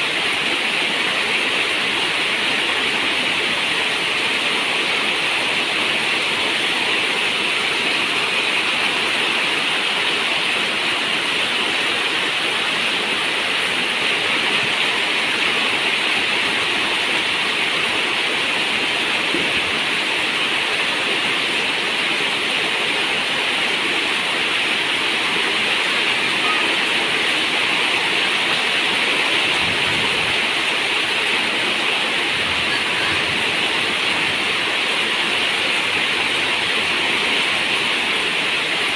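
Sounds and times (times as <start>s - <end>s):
rain on a metal roof: 0.0s - 38.9s.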